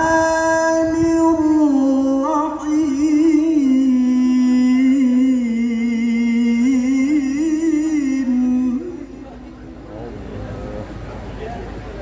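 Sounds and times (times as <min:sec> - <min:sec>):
man reciting in melodic chant: 0:00.0 - 0:11.0.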